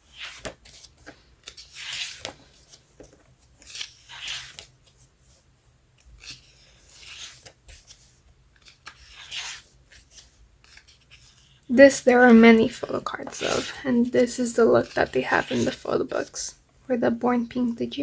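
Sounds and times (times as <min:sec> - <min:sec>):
pages being turned: 0:00.0 - 0:16.4.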